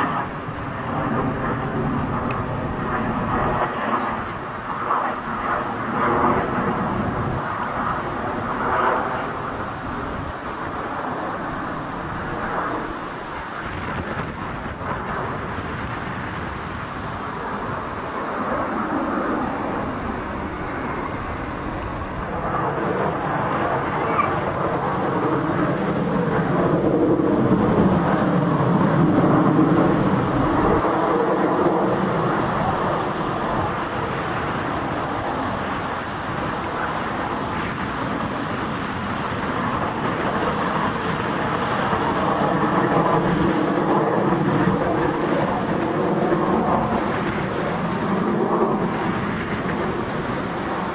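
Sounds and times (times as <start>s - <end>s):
aircraft engine noise: 0.0s - 50.9s.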